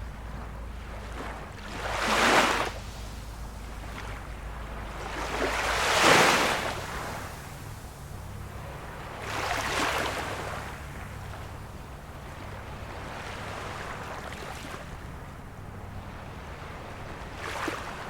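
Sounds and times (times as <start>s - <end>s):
low rumble: 0.0s - 17.4s
small waves washing in: 0.0s - 18.0s.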